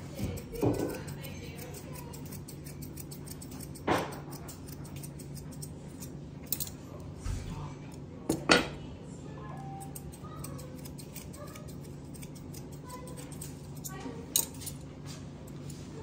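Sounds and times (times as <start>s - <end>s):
shears snipping hair: 0.0s - 6.8s, 9.6s - 16.0s
steady low hum: 0.0s - 16.0s.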